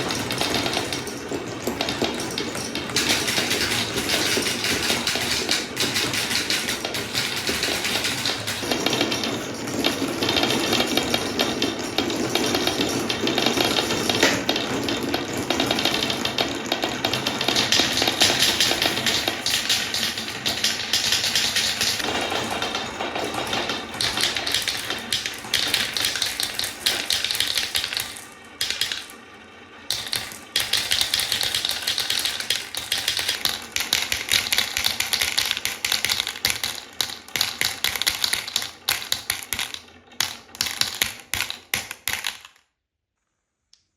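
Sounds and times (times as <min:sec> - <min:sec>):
marbles rattling down wooden slopes: 0:00.0 - 0:42.6.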